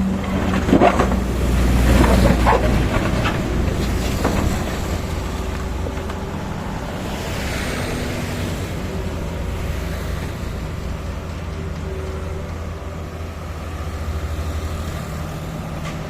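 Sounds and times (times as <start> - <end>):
heavy machinery engine rumbling: 0.0 - 16.0.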